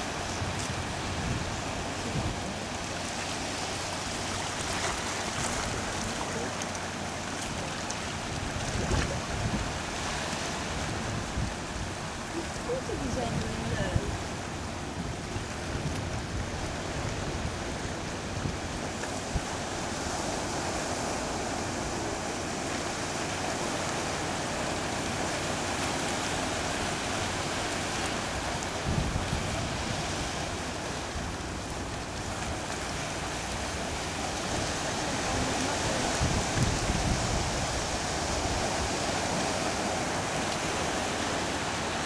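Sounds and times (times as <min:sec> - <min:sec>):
surf washing over rocks: 0:00.0 - 0:42.0
wind rumbling on microphone: 0:00.0 - 0:42.0.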